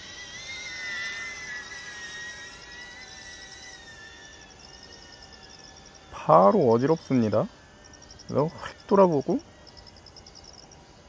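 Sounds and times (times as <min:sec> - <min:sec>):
drone propellers whining: 0:00.0 - 0:10.4
crickets chirping: 0:00.0 - 0:11.0.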